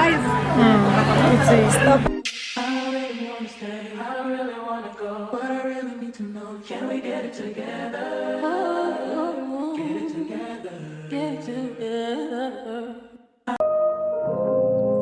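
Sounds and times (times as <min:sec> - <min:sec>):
a cappella group singing: 0:00.6 - 0:13.2.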